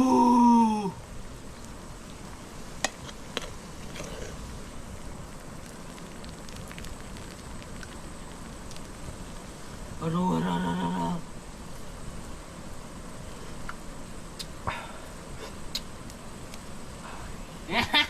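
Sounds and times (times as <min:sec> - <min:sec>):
crackling hiss: 0:00.0 - 0:18.0.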